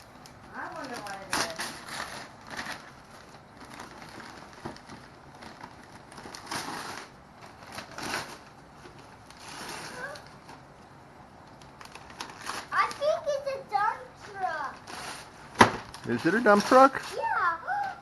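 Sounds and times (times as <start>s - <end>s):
wrapping paper rustling and tearing: 0.2s - 10.8s, 11.5s - 18.0s.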